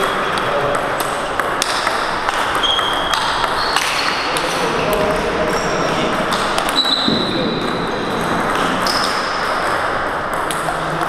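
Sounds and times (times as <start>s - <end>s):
ball bouncing on table: 0.0s - 11.0s
table tennis bats hitting ball: 0.0s - 11.0s.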